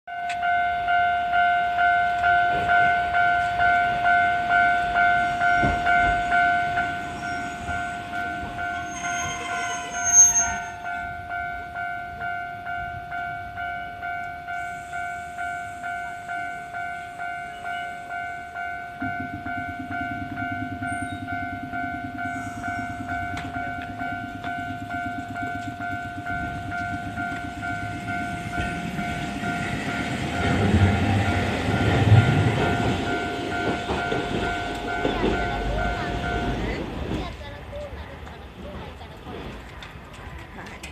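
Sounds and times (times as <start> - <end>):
level crossing warning bell: 0.1 - 40.9
tram rumbling past: 0.1 - 40.9.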